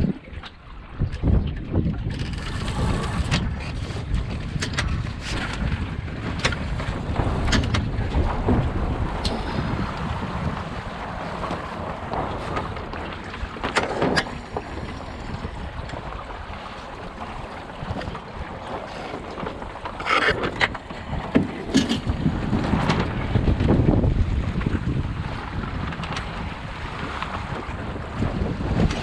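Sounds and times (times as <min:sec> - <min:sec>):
boat knocks and clicks: 0:00.0 - 0:29.0
wind buffeting microphone: 0:00.0 - 0:29.0.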